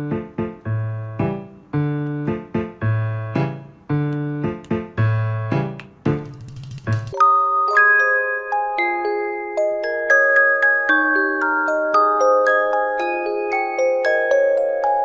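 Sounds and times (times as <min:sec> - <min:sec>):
bouncy piano music: 0:00.0 - 0:15.0.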